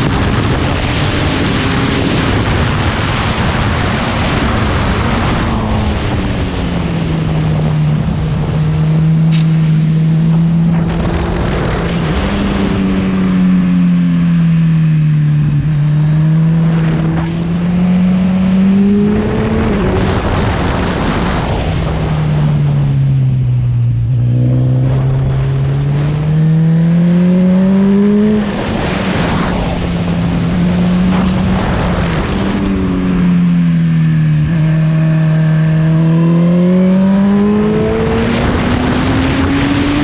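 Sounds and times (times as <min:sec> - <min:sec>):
motorcycle engine running hard: 0:00.0 - 0:40.0.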